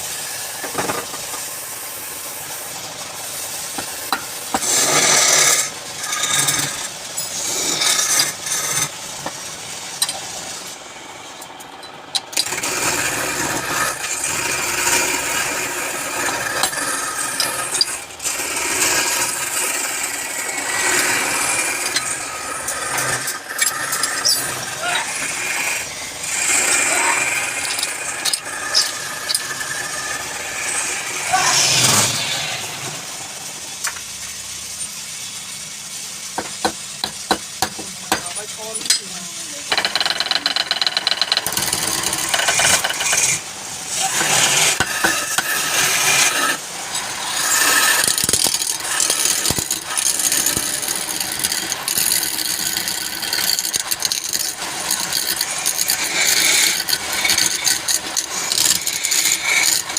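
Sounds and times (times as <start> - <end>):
wood lathe cutting wood: 0.0 - 9.3, 12.4 - 33.6, 39.6 - 59.9.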